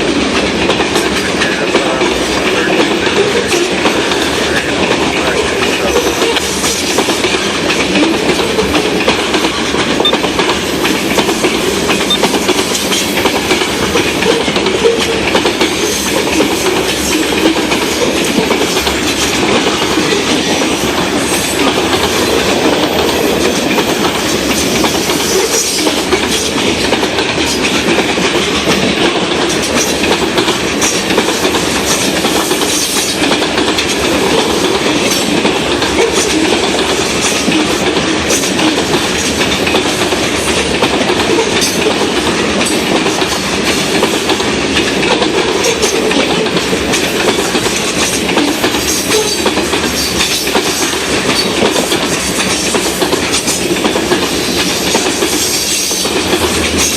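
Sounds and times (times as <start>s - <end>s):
train wheels rumbling: 0.0s - 56.9s
wheels clicking over rail joints: 0.0s - 56.9s.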